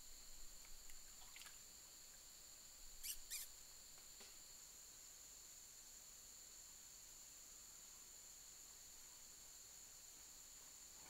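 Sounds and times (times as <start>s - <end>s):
high-pitched insect chorus: 0.0s - 11.0s
light background hiss: 0.0s - 11.0s.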